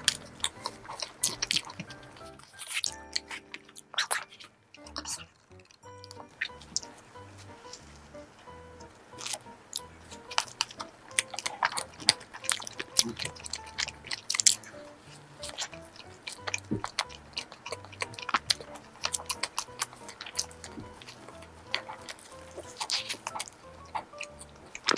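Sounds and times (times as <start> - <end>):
close-miked chewing and biting: 0.0 - 8.1, 9.1 - 24.9
soft background music: 0.0 - 24.9.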